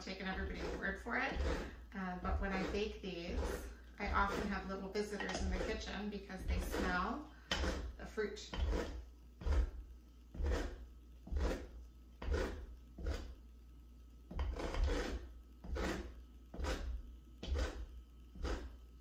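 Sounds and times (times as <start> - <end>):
lemon rasping on a grater: 0.0 - 13.3, 14.3 - 18.7.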